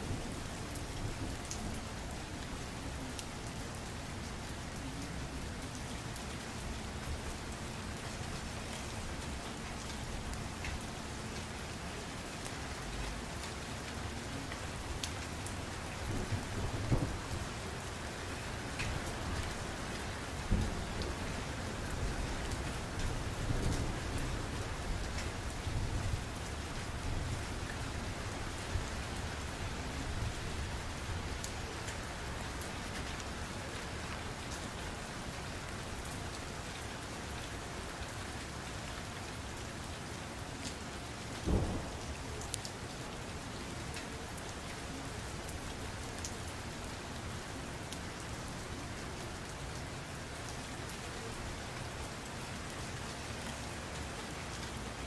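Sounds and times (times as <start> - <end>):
rain-like hiss: 0.0 - 55.0.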